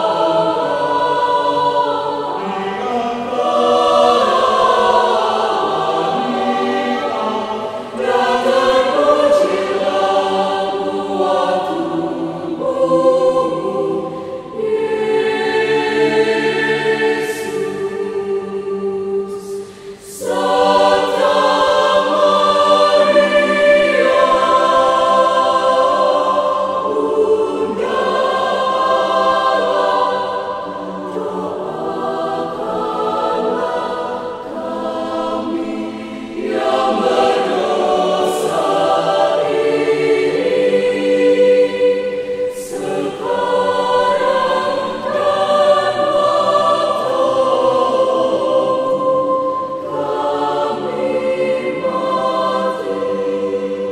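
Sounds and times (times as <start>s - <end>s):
mixed choir singing in harmony: 0.0s - 53.9s.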